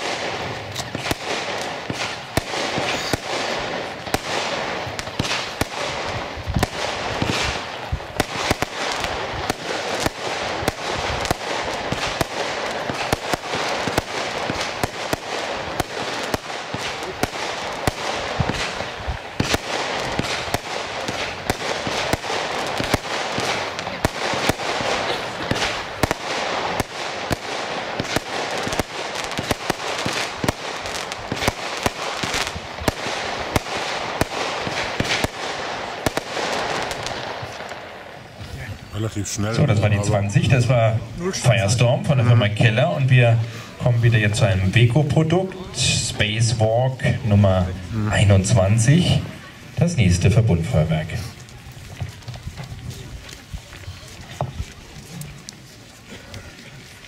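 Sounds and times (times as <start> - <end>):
firework shots and bursts: 0.0 - 56.6.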